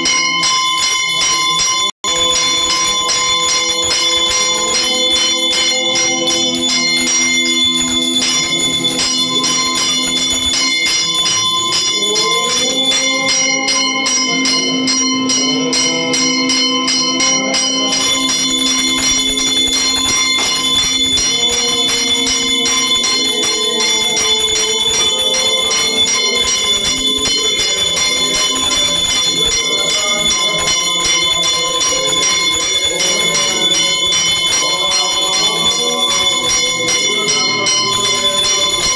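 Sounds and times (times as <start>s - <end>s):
hand bell ringing rapidly: 0.0s - 38.9s.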